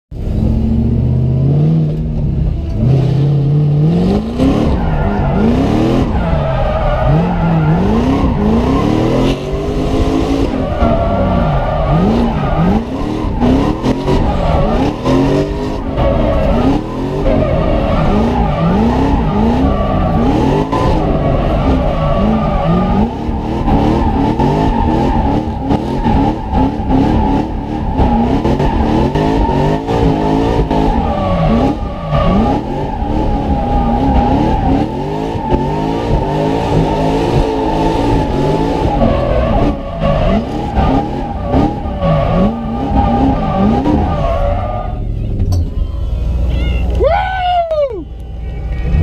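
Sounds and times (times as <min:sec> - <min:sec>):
car engine revving: 0:00.1 - 0:45.6.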